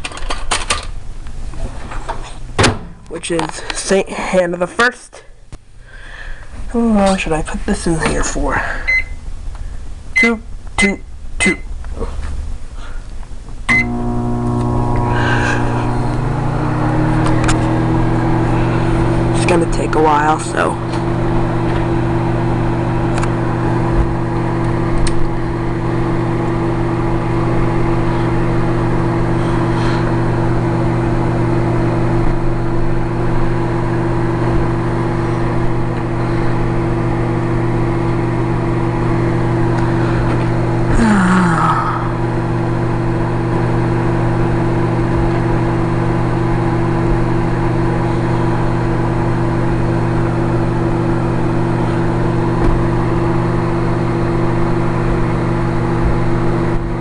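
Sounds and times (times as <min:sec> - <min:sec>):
microwave oven humming: 0:05.5 - 0:12.2, 0:12.9 - 0:57.0.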